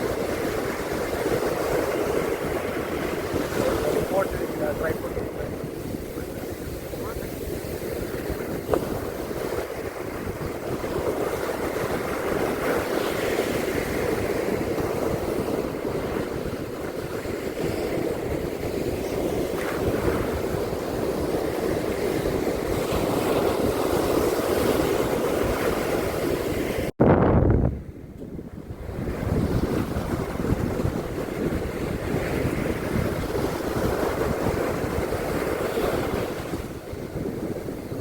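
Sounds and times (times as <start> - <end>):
sea surf washing on beach: 0.0 - 27.0, 28.4 - 38.0
wind on microphone: 0.0 - 38.0.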